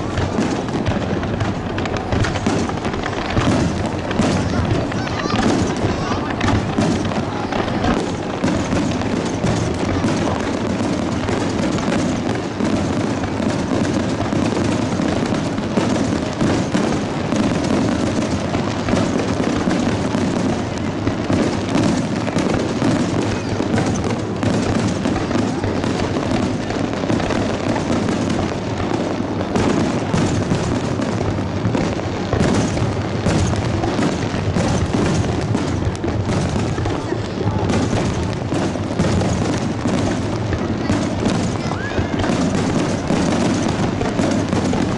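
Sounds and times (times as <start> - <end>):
fireworks booming and crackling: 0.0 - 44.9.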